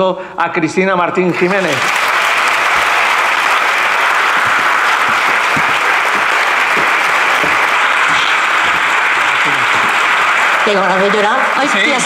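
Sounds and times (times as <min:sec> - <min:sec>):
audience applauding: 0:01.3 - 0:12.0.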